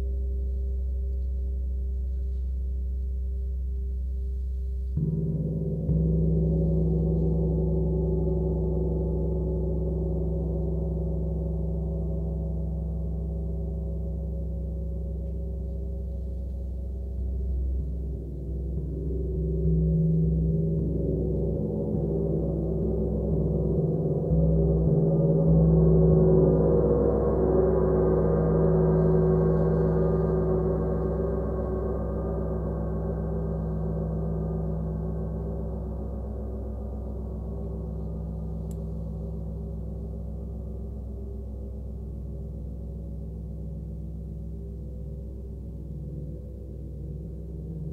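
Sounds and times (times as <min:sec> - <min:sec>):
gong humming with mallets: 0:04.3 - 0:47.9.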